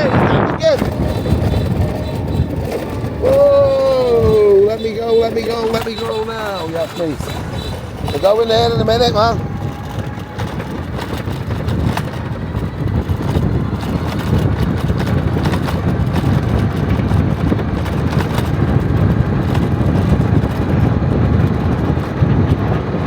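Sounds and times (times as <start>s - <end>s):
low rumbling vehicle noise: 0.0s - 23.0s.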